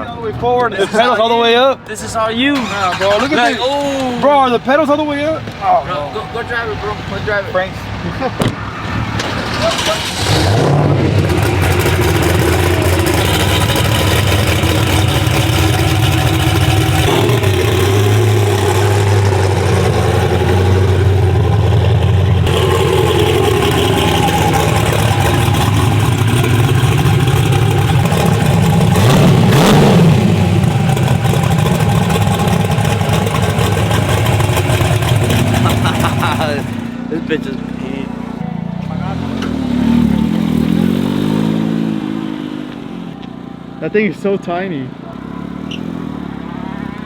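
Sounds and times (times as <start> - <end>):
truck engine running: 2.5 - 44.2.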